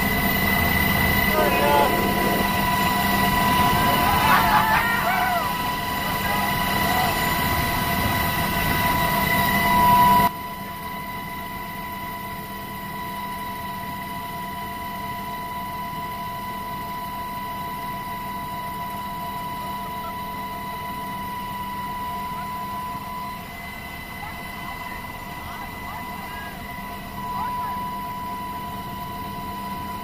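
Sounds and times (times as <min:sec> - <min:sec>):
helicopter cabin whine: 0:00.0 - 0:30.0
helicopter engine and rotor noise: 0:00.0 - 0:30.0.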